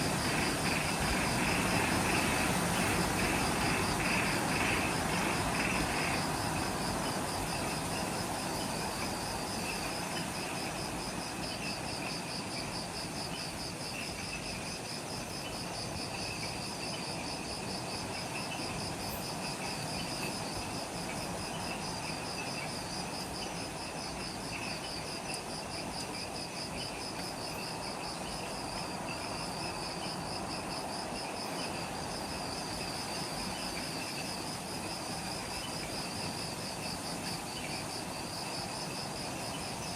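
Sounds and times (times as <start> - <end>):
high pulsing insect trill: 0.0 - 39.9
hiss of insects: 0.0 - 39.9
low insect trill: 0.0 - 39.9.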